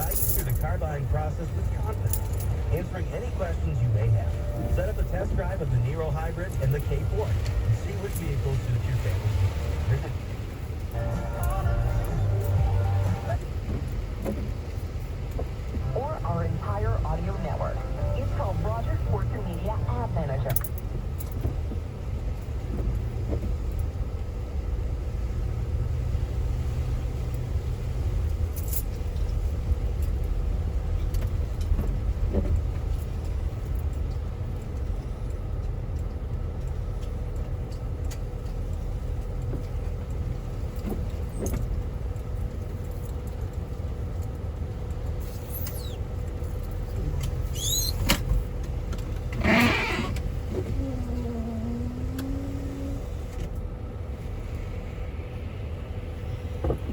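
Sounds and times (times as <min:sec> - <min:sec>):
road and tyre rumble in car: 0:00.0 - 0:56.9.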